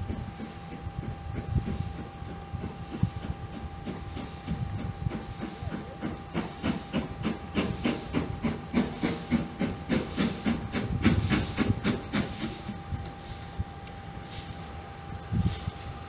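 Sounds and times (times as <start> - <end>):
steam locomotive exhaust chuffing: 0.0 - 16.0.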